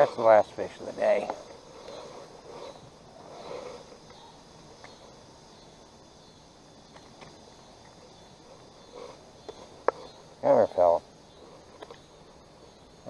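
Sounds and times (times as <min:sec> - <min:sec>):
faint insect chorus: 0:00.0 - 0:13.0.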